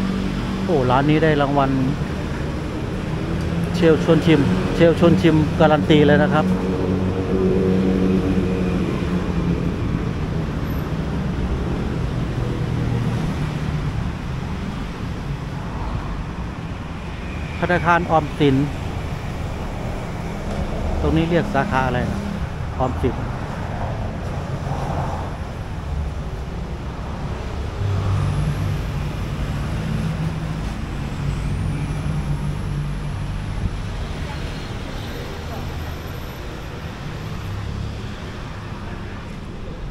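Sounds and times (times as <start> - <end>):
road traffic: 0.0 - 39.9
vehicle engine humming: 0.0 - 39.9.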